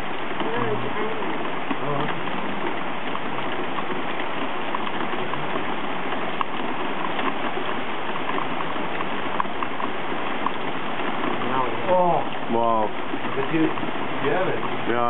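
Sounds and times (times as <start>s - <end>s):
faint ticks and drips: 0.0s - 15.0s
rushing water: 0.0s - 15.0s.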